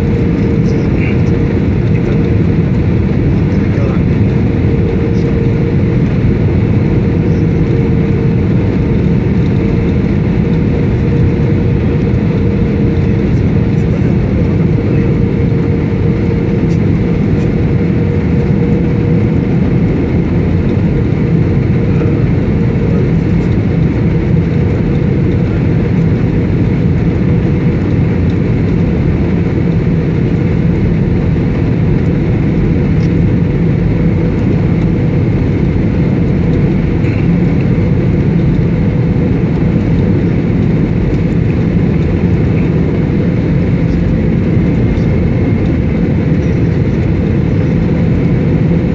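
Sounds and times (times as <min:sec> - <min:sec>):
airliner cabin drone: 0:00.0 - 0:48.9.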